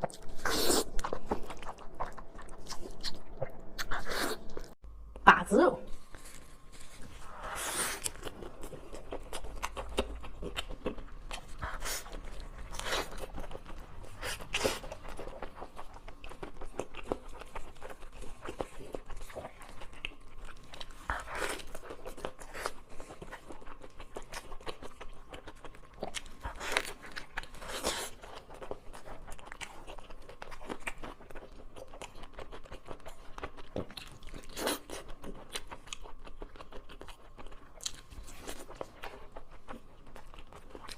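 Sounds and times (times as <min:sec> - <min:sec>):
person biting and chewing food: 0:00.0 - 0:04.8, 0:06.1 - 0:40.9.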